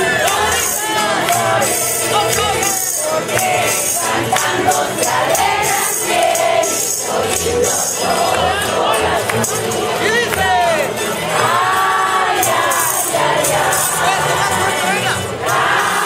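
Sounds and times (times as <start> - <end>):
crowd noise: 0.0 - 16.0
group of voices singing: 0.0 - 16.0
tambourine jingling: 0.0 - 16.0.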